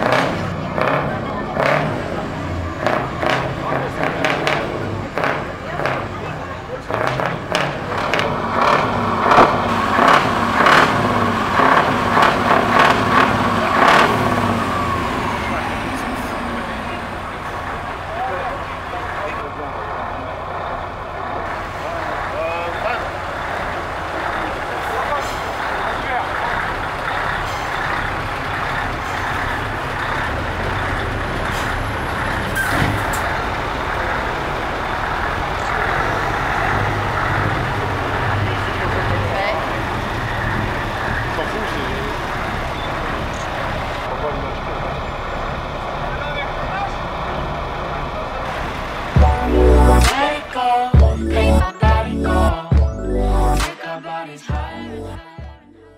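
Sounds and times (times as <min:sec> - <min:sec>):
diesel truck engine running: 0:00.0 - 0:53.7.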